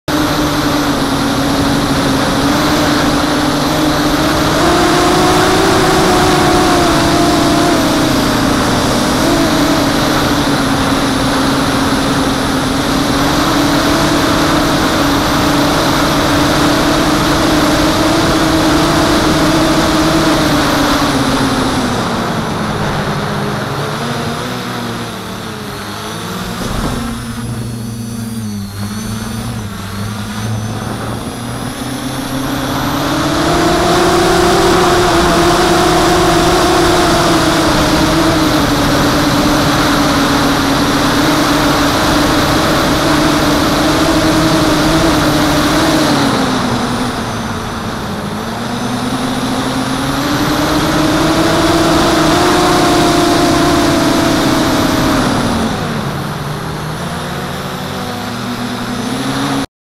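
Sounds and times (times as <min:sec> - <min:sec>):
quadcopter motors whining: 0:00.1 - 0:59.7.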